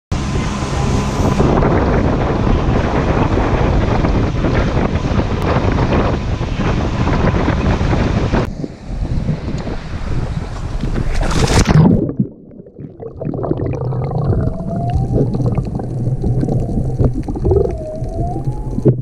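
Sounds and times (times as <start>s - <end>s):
wind buffeting microphone: 0.1s - 19.0s
water rushing past boat hull: 0.2s - 19.0s.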